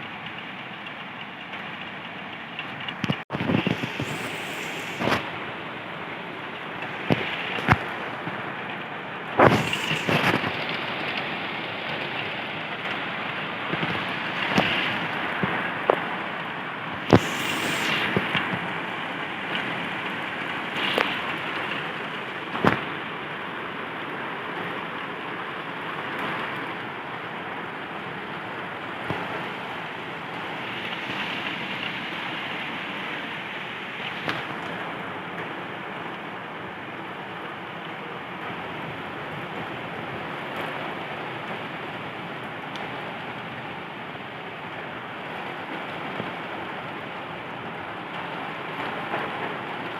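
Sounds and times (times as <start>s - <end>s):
heavy rain pouring: 0.0s - 49.9s
raindrops splatting close by: 0.0s - 49.9s.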